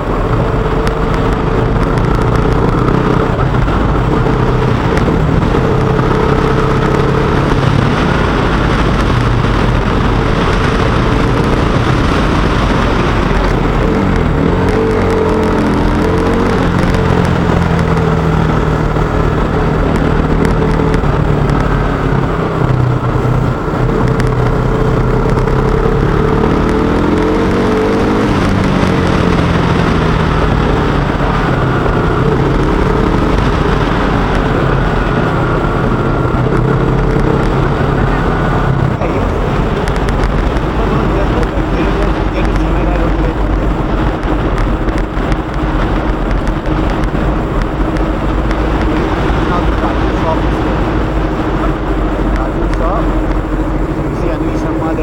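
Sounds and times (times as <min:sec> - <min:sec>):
motorcycle engine revving: 0:00.0 - 0:55.0
road and wind noise: 0:00.0 - 0:55.0.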